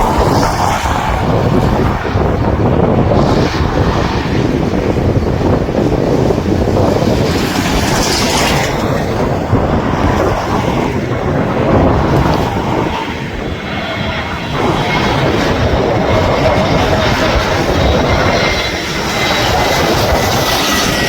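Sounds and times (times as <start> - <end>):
jet engine rumble: 0.0 - 21.0
wind buffeting microphone: 0.0 - 21.0.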